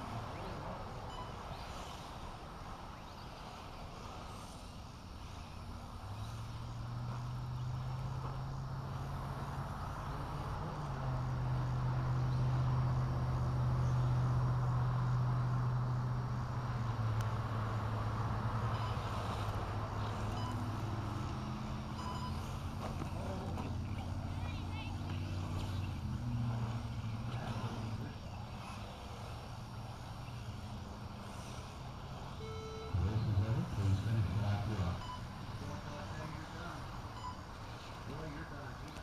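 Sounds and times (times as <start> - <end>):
engine hum: 0.0 - 39.0.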